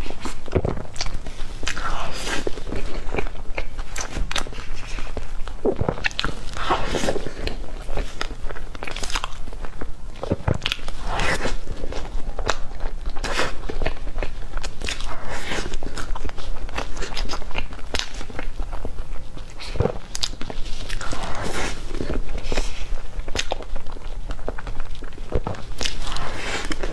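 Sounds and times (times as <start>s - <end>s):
person chewing cake: 0.0s - 26.9s.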